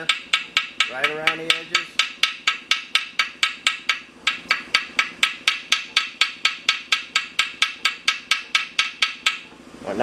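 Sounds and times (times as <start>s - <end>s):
hammer striking metal pins: 0.0s - 9.5s.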